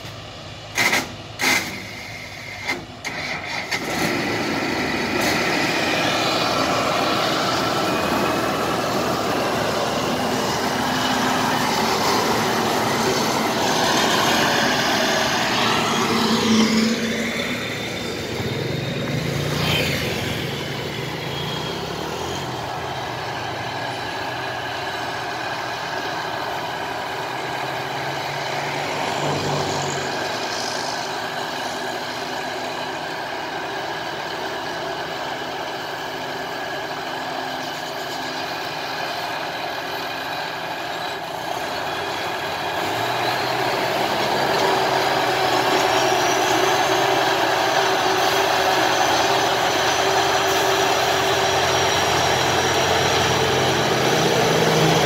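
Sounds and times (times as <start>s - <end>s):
harvester engine running: 0.0s - 55.0s.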